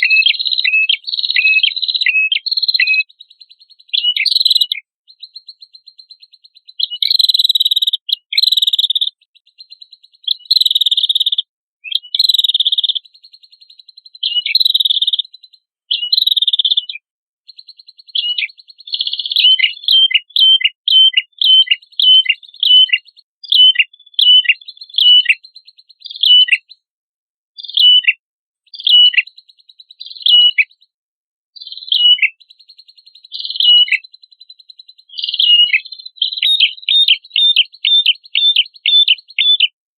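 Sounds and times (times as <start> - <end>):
songbird singing trills: 0.0 - 26.9, 27.6 - 31.0, 31.6 - 39.8.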